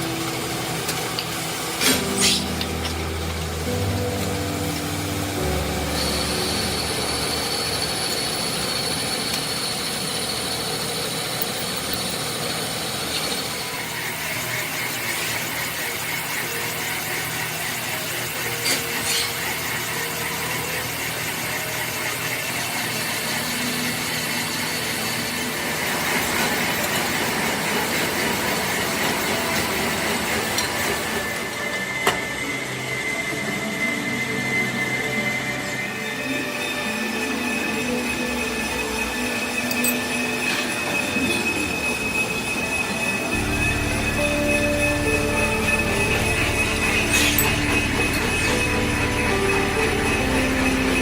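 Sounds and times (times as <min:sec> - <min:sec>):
metal-cutting machine whine: 0:00.0 - 0:51.0.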